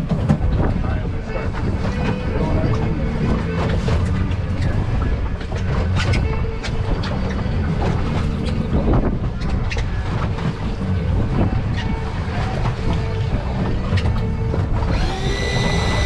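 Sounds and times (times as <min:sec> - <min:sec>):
boat engine rumbling: 0:00.0 - 0:16.0
wind buffeting microphone: 0:00.0 - 0:16.0.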